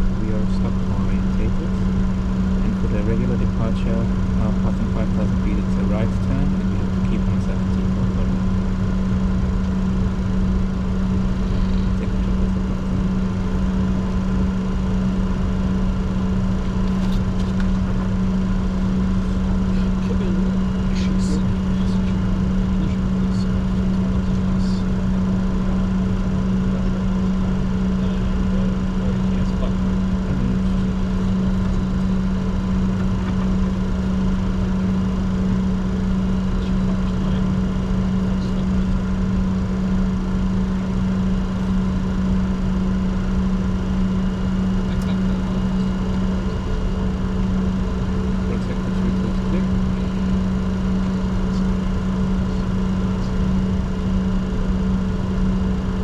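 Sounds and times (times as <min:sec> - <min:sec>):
faint steady whines: 0:00.0 - 0:56.0
jet cockpit low hum: 0:00.0 - 0:56.0.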